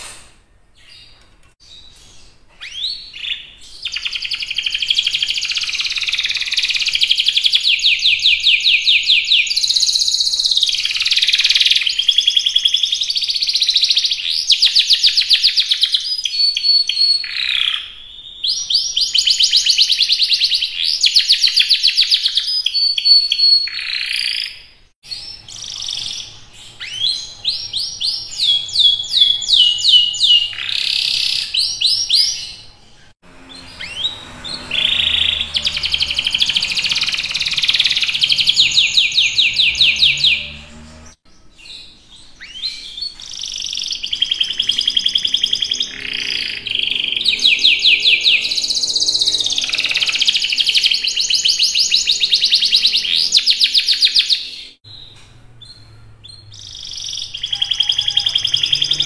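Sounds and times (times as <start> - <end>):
canary singing trills: 0.8 - 59.0.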